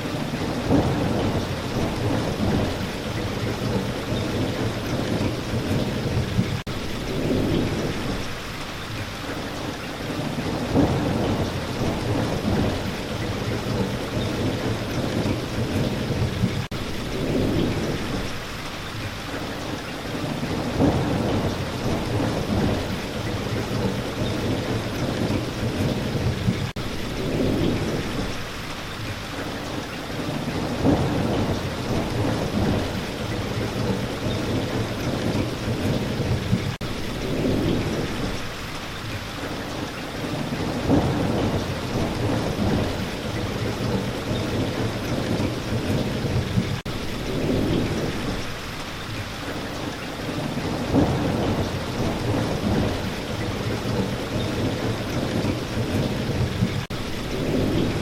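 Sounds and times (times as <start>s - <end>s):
thunder rolling: 0.0s - 8.4s, 10.1s - 18.4s, 20.1s - 28.5s, 30.2s - 38.5s, 40.1s - 48.6s, 50.2s - 58.0s
steady rain: 0.0s - 58.0s.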